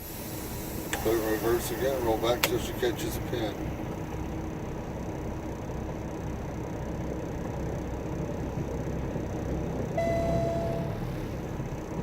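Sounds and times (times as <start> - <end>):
diesel engine running at low revs: 0.0 - 12.0.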